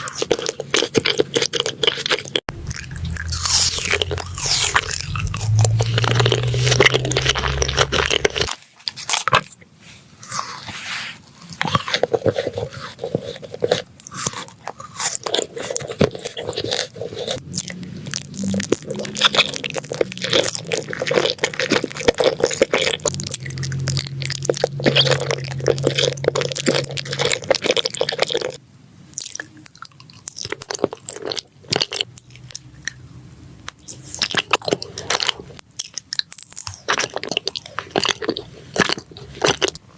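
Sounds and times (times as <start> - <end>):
person chewing crunchy food: 0.0 - 9.6, 10.2 - 39.9.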